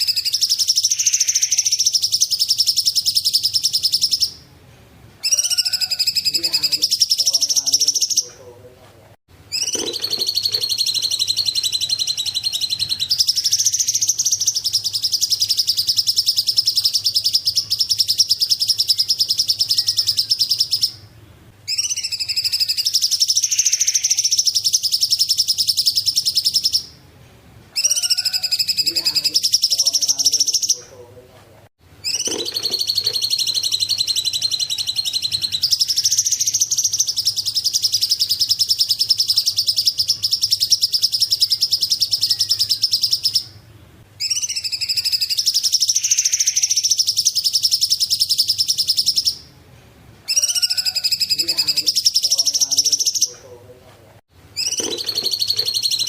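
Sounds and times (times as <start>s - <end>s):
bird singing pulsing trills: 0.0s - 4.5s, 5.2s - 8.5s, 9.5s - 27.0s, 27.7s - 31.0s, 32.0s - 49.5s, 50.3s - 53.6s, 54.6s - 56.0s.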